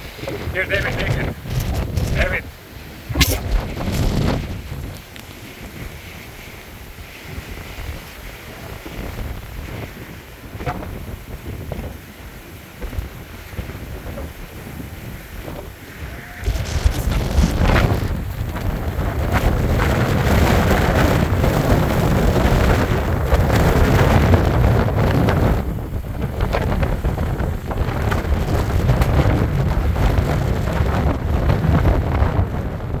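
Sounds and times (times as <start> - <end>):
gusty wind buffeting microphone: 0.0 - 33.0.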